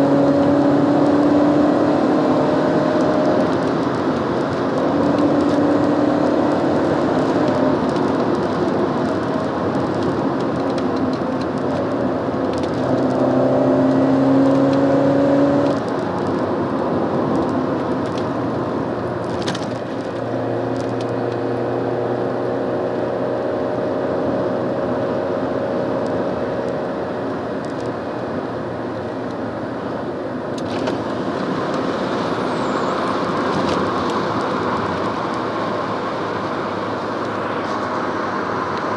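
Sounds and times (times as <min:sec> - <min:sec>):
car engine while driving: 0:00.0 - 0:38.9
tyre and road noise: 0:00.0 - 0:38.9.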